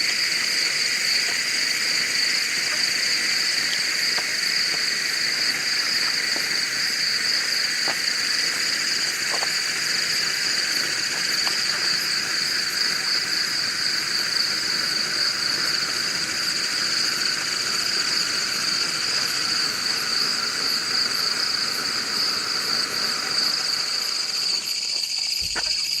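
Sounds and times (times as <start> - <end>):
flare burning with hiss: 0.0 - 24.9
insects trilling: 0.0 - 26.0.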